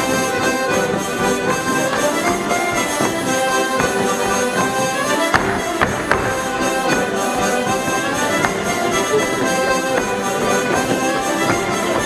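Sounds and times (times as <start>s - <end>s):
accordion folk dance tune: 0.0s - 12.0s.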